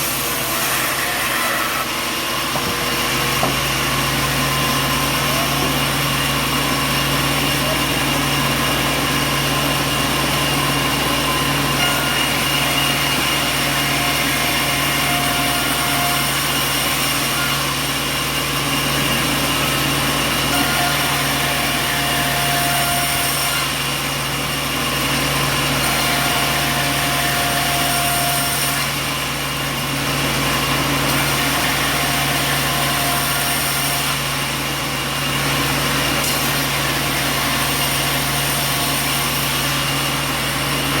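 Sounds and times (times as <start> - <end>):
sawmill machinery drone: 0.0 - 41.0.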